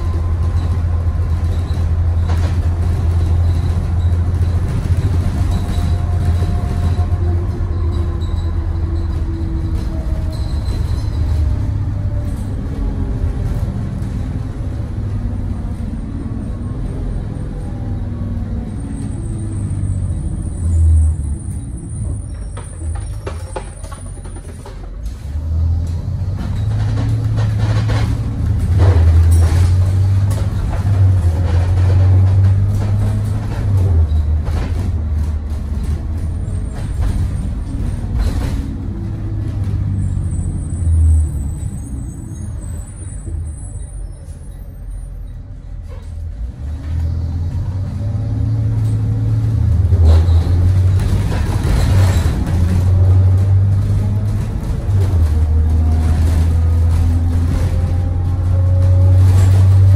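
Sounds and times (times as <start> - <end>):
bus body knocking and rattling: 0.0 - 59.9
bus engine droning: 0.0 - 59.9.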